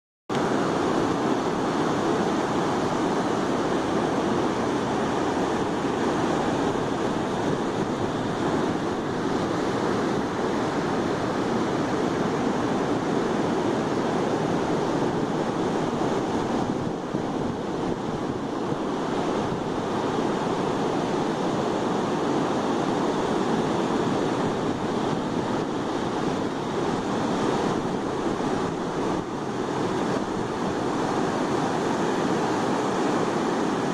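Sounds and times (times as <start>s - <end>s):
ocean surf breaking on beach: 0.3s - 33.9s
wind on microphone: 0.4s - 33.9s.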